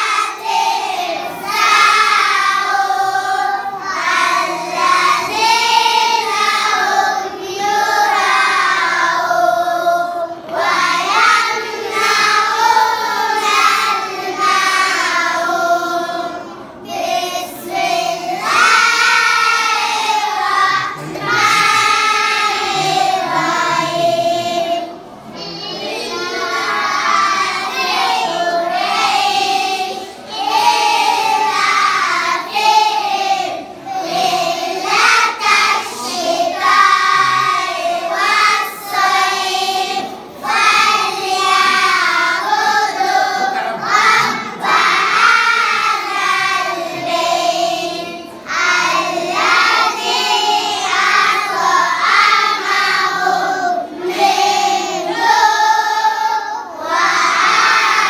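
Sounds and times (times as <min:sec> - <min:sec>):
children singing in unison: 0:00.0 - 0:58.0.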